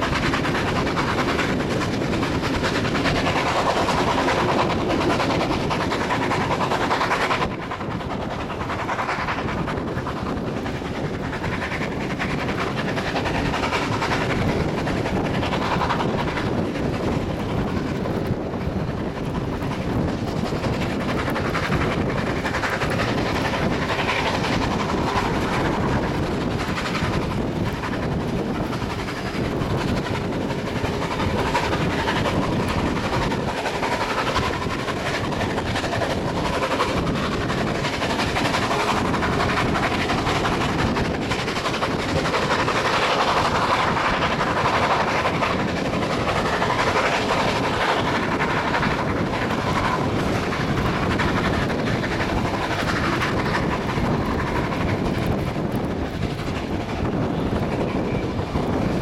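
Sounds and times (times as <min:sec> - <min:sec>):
train wheels rolling on rail: 0:00.0 - 0:59.0
wind rushing: 0:00.0 - 0:59.0.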